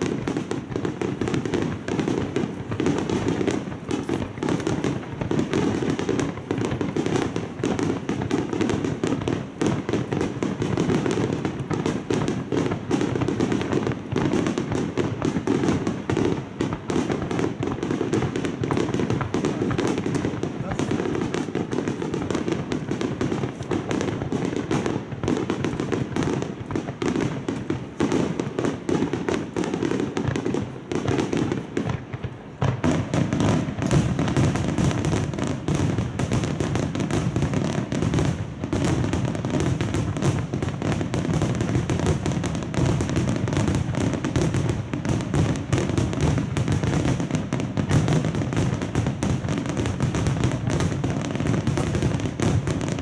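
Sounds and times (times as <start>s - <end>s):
fireworks booms and crackles: 0.0s - 53.0s
fireworks bursting: 0.0s - 53.0s.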